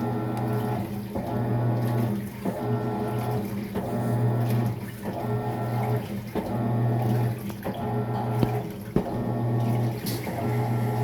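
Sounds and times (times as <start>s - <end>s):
washing machine humming: 0.0s - 11.0s
water noise: 0.0s - 11.0s.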